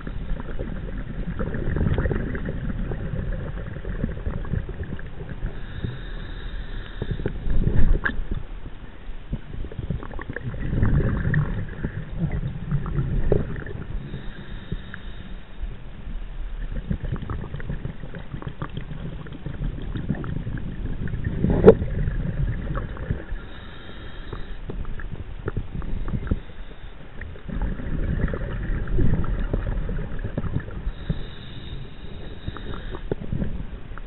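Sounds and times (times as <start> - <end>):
steady low rumble: 0.0 - 34.0
underwater bubbles gurgling: 0.0 - 34.0.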